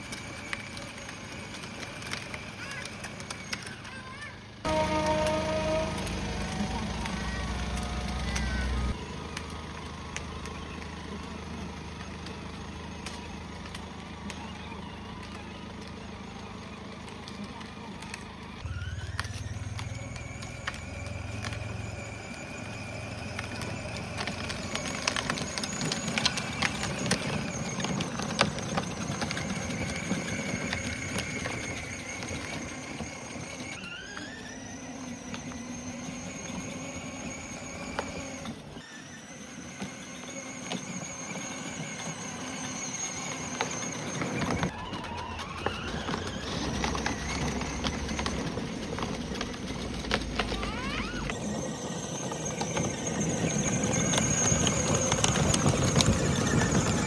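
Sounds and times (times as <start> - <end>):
electric motors whining: 0.0 - 57.0.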